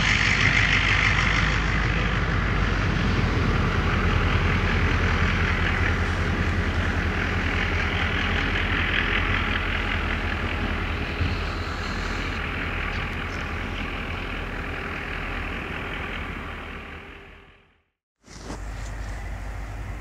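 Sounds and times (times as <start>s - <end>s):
diesel locomotive engine drone: 0.0s - 20.0s.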